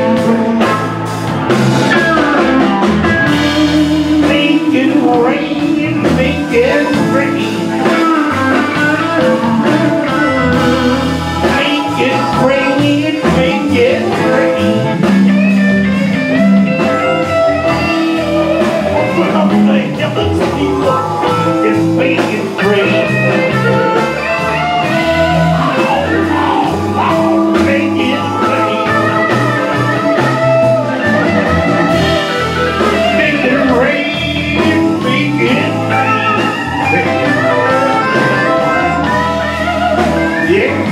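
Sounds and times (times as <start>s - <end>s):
harmonica into a microphone: 0.0s - 40.9s
live blues band playing: 0.0s - 40.9s.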